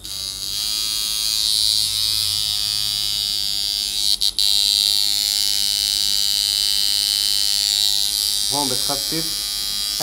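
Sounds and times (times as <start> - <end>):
tattoo machine buzzing: 0.0 - 10.0.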